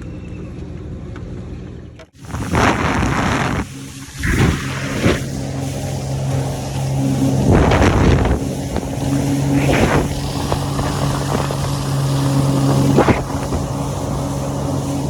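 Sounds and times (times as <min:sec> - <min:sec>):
jet ski engine running: 0:00.1 - 0:15.0
water spray rushing: 0:02.2 - 0:15.0
waves slapping: 0:02.2 - 0:15.0.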